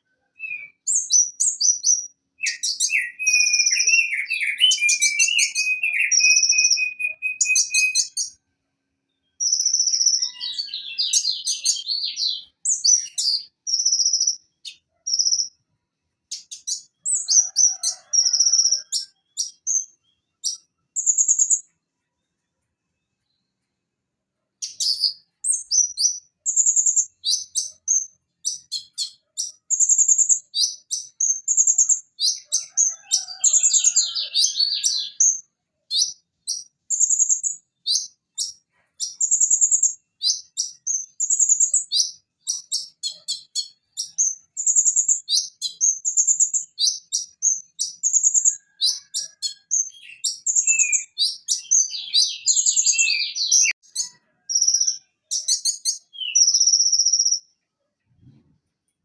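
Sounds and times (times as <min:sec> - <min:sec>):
sunbird singing high chirps: 0:00.0 - 0:08.4, 0:09.1 - 0:15.6, 0:16.3 - 0:21.7, 0:24.6 - 0:57.5.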